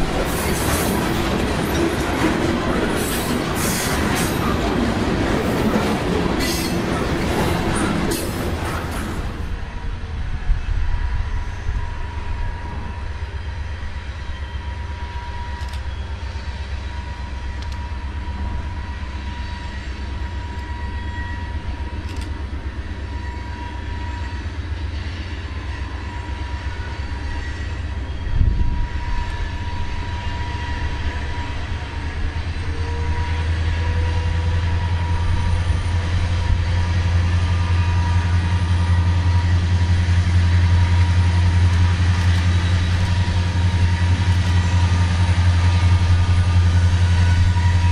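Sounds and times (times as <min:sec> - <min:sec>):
distant locomotive engine rumble: 0:00.0 - 0:47.9.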